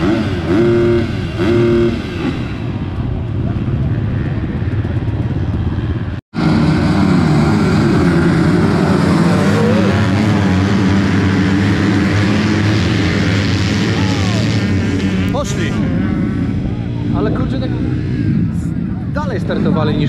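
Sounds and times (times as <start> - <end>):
motocross motorcycles revving: 0.0 - 20.0.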